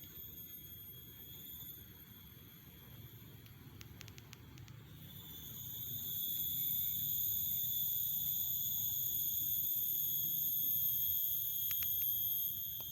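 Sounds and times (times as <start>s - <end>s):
high-pitched eerie whine: 0.0s - 4.1s, 4.8s - 12.9s.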